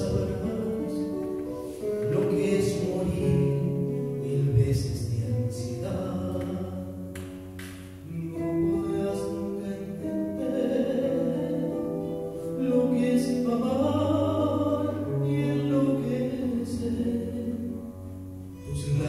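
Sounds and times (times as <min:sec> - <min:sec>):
man singing into microphone: 0:00.0 - 0:07.2, 0:08.0 - 0:19.0
instrumental accompaniment: 0:00.0 - 0:19.0.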